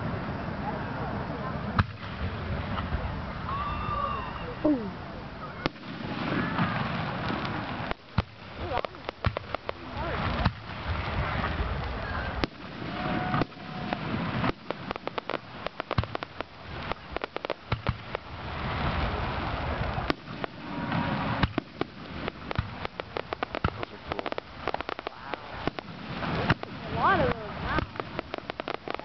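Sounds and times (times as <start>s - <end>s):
fireworks crackling and popping: 0.0s - 29.0s
sharp firework reports: 1.3s - 29.0s.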